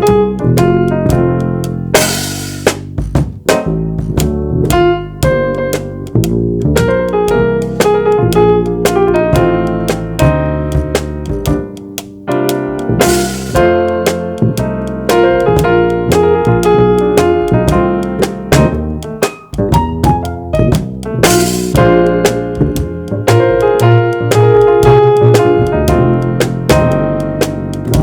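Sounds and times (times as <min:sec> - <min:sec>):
bass line: 0:00.0 - 0:28.0
light drums: 0:00.0 - 0:28.0
piano chords and melody: 0:00.0 - 0:28.0.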